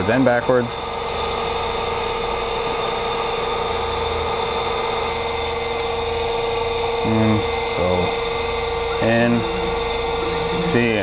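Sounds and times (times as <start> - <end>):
grinder machine hum with steady tone: 0.0 - 11.0.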